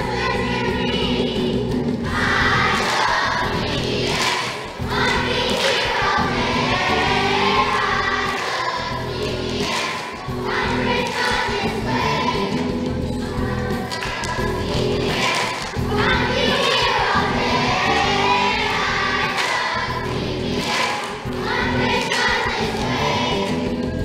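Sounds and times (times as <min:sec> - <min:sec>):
group of voices singing: 0:00.0 - 0:24.0.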